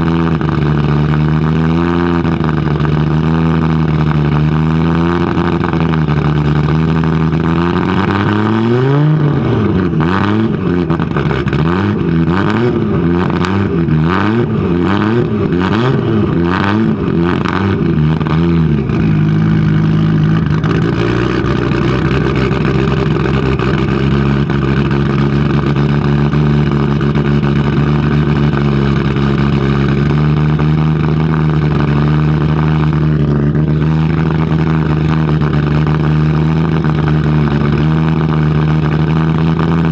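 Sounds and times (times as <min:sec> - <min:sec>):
engine idling: 0:00.0 - 0:39.9
engine revving with cracks: 0:00.0 - 0:39.9.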